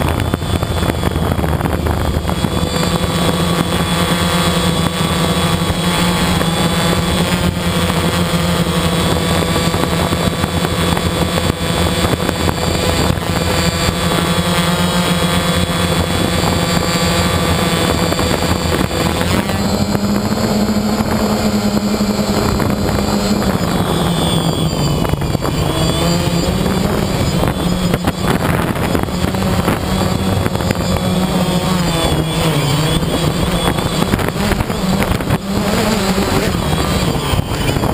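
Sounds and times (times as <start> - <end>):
quadcopter propellers buzzing: 0.0 - 37.9.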